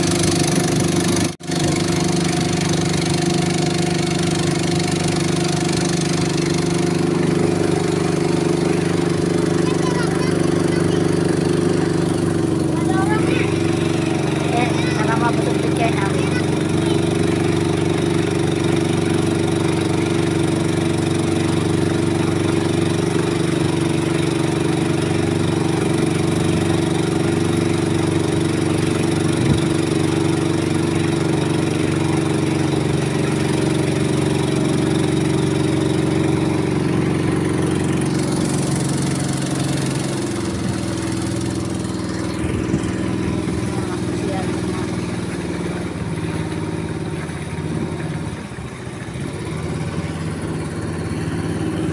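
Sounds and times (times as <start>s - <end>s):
boat motor running: 0.0s - 51.9s
water rushing along hull: 0.0s - 51.9s.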